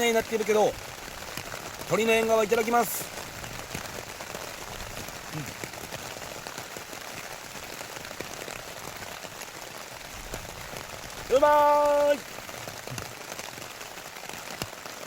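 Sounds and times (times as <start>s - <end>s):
heavy rain on tent fabric: 0.0s - 15.0s.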